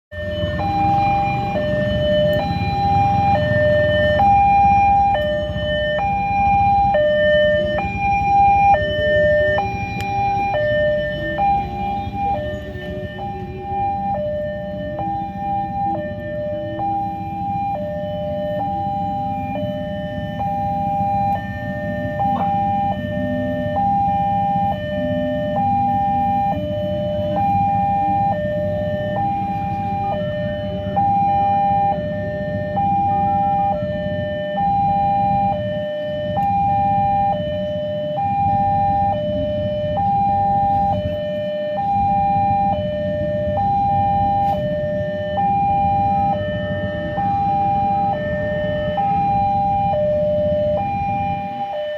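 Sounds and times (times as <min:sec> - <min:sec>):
two-tone level crossing alarm: 0:00.1 - 0:51.9.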